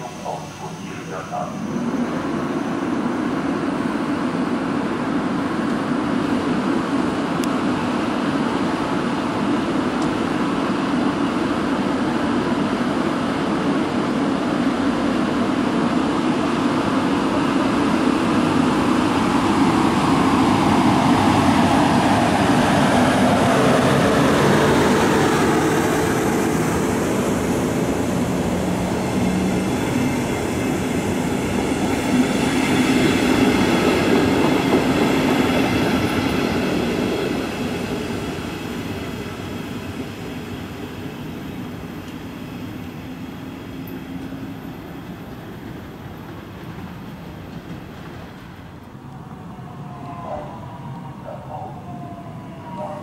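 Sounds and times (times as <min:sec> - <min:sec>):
train wheels rolling on rails: 0:00.0 - 0:50.9.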